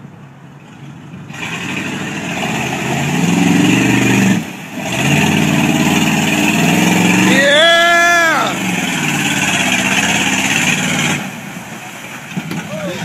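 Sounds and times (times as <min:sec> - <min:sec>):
bus engine revving: 0:01.1 - 0:11.7.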